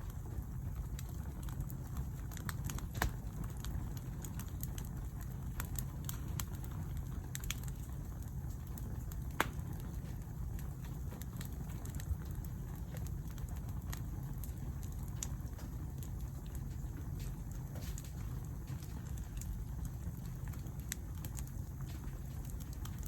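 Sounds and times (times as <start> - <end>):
campfire crackling: 0.0 - 23.0
loud fire pops: 0.0 - 23.0.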